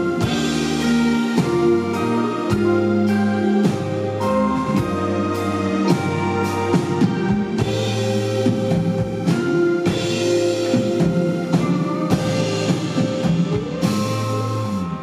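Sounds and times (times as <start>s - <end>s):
drum kit keeping time: 0.0s - 15.0s
sustained chords: 0.0s - 15.0s.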